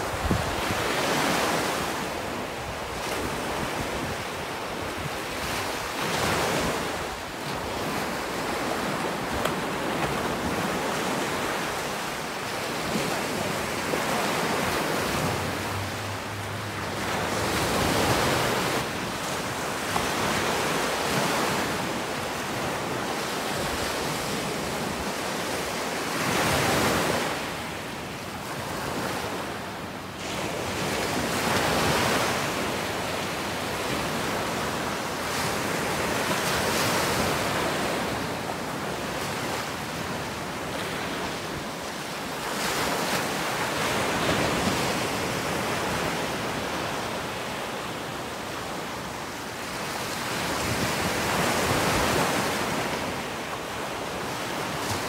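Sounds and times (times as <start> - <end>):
small waves breaking on beach: 0.0 - 55.0.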